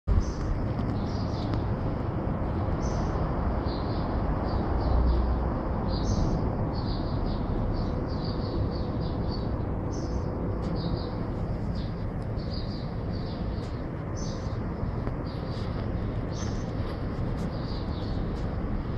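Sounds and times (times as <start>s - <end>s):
small birds chirping: 0.1s - 18.9s.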